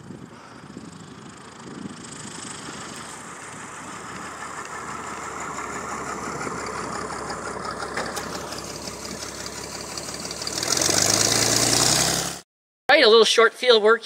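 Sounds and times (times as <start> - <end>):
propeller plane engine running: 0.0 - 12.4.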